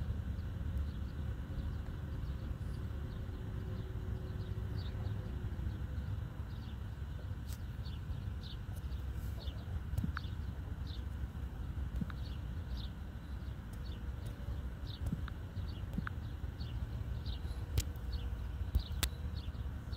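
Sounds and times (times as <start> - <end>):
small birds chirping: 0.0 - 19.9
steady low rumble: 0.0 - 19.9.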